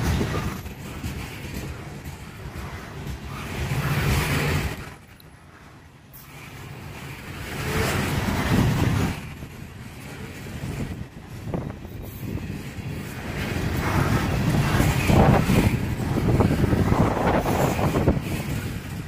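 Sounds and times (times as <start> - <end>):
train wheels rumbling on rails: 0.0 - 19.0
wheels clacking over rail joints: 0.0 - 19.0.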